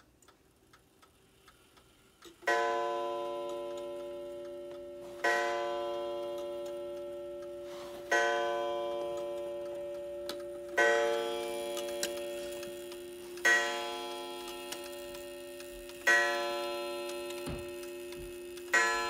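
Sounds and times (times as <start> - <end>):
clock ticking faintly: 0.0 - 19.0
clock striking: 2.2 - 19.0.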